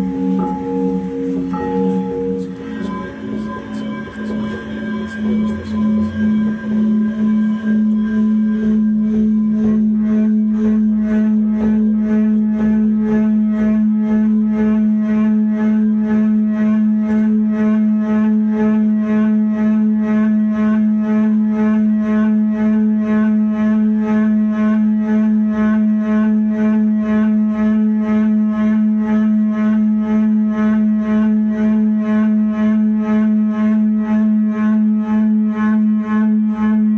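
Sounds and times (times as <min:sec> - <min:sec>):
pulsing low instrumental drone: 0:00.0 - 0:36.9.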